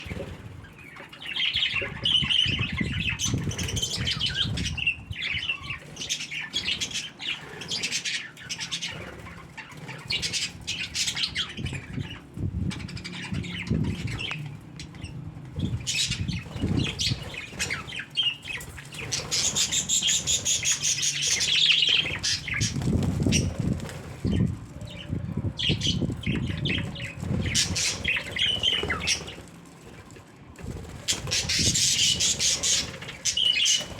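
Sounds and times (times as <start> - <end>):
budgerigars chirping: 0.0 - 23.6, 25.6 - 29.4, 31.1 - 33.9
wings flapping: 5.4 - 33.9.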